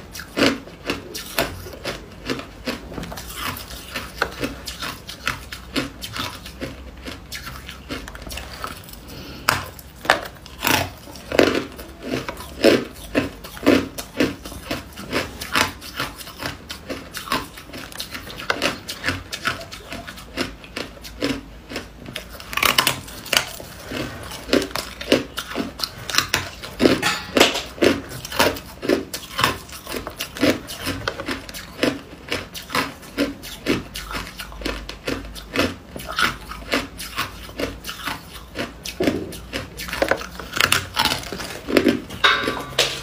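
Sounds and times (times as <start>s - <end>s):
ice crunching between teeth: 0.1s - 42.3s.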